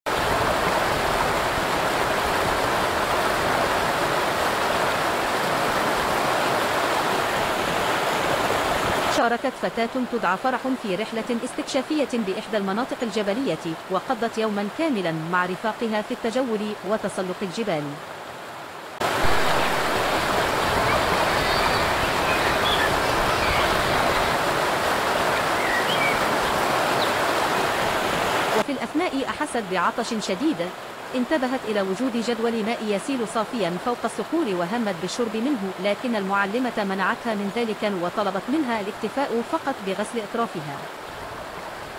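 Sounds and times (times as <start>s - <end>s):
running water: 0.1s - 41.9s.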